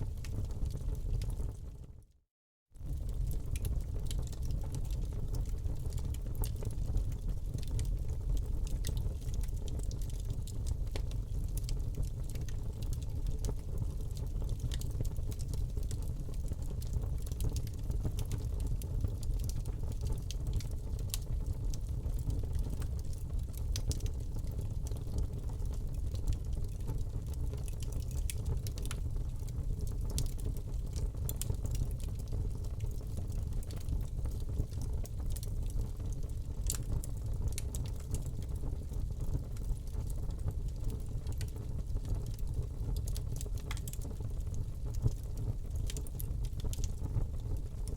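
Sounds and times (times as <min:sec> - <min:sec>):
wood fire crackling: 0:00.0 - 0:01.6, 0:02.8 - 0:47.9
low rumble of flames: 0:00.0 - 0:02.0, 0:02.8 - 0:47.9.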